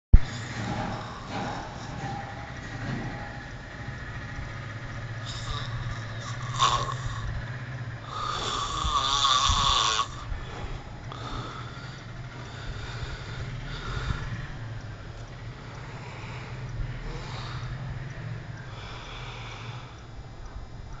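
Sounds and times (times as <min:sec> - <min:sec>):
man snoring rattling: 0:00.2 - 0:21.0.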